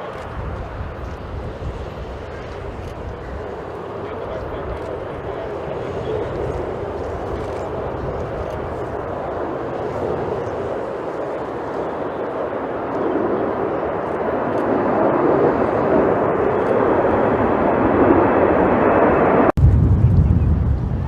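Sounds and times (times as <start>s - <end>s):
jet airliner engine noise: 0.0s - 21.0s
wind buffeting microphone: 0.0s - 21.0s.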